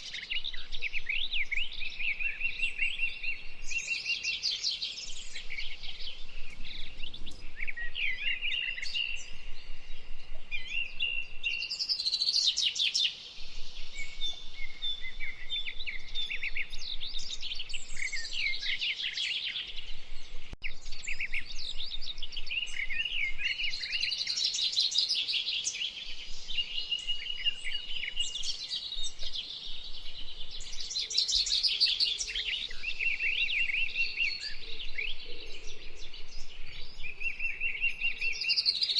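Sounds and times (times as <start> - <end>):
chorus of wild birds singing: 0.0 - 38.9.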